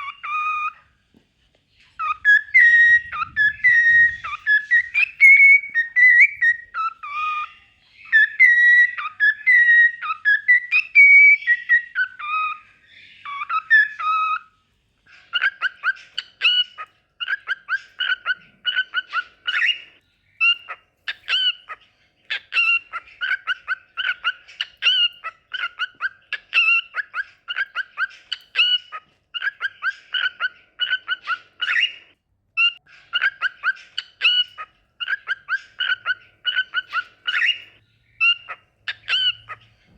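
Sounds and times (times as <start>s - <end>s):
cockatiel whistling song: 0.0s - 1.0s, 1.9s - 39.9s.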